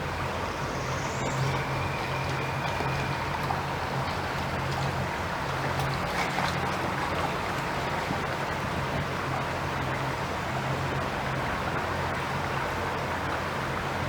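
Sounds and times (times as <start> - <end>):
boat motor running: 0.0 - 14.0
water rushing past hull: 0.0 - 14.0.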